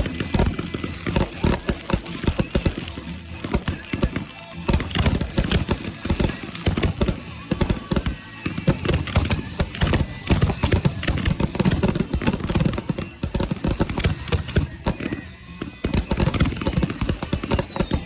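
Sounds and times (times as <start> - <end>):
fireworks booming and crackling: 0.0 - 18.0
music playing: 0.0 - 18.0.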